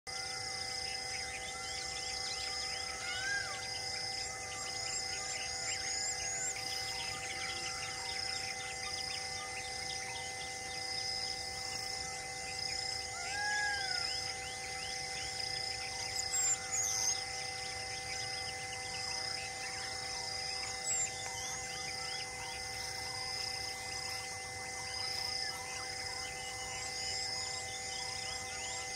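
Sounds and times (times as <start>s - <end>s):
high insect trill: 0.1s - 28.9s.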